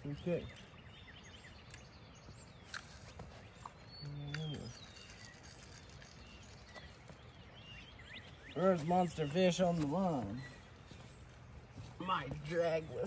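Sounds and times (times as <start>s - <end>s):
faint songbird chirps: 0.0s - 13.0s.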